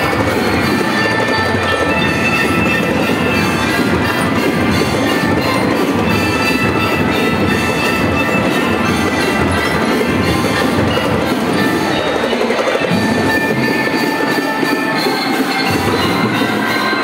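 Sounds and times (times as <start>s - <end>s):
bell lyres ringing melody: 0.0s - 17.0s
marching drums beating: 0.0s - 17.0s.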